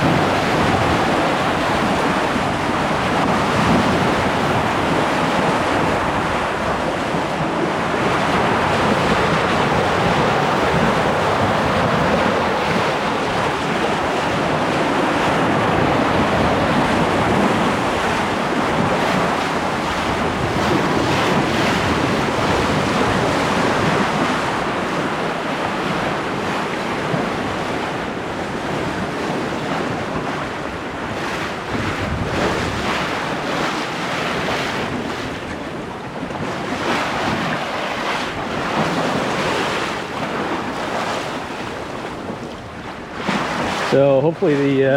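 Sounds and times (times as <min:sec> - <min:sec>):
water rushing along a boat: 0:00.0 - 0:44.9
wind buffeting microphone: 0:00.0 - 0:44.9.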